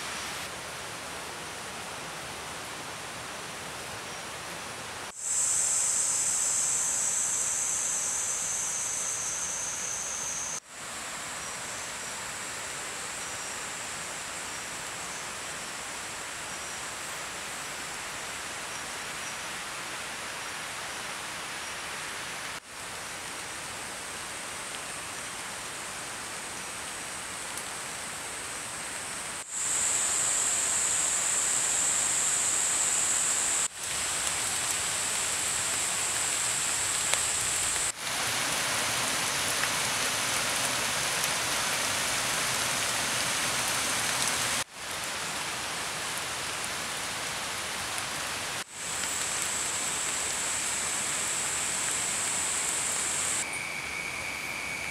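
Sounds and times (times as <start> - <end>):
rain falling on foliage: 0.0 - 53.6.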